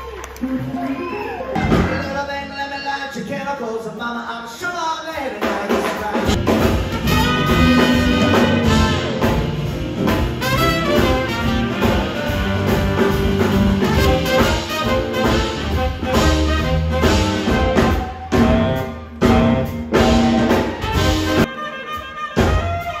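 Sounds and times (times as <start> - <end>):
jazz band playing live: 0.2 - 2.8, 5.4 - 23.0.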